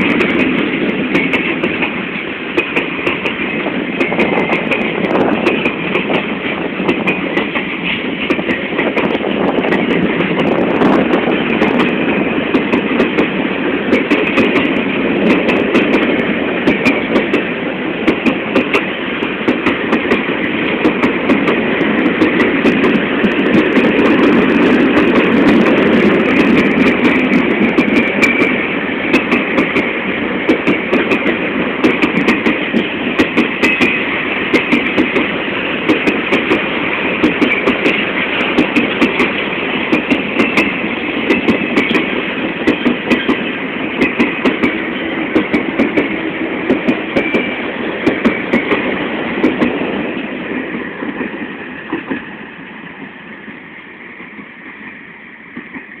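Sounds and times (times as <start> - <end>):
wheels clacking over rail joints: 0.0 - 54.8
train rumble: 0.0 - 56.0.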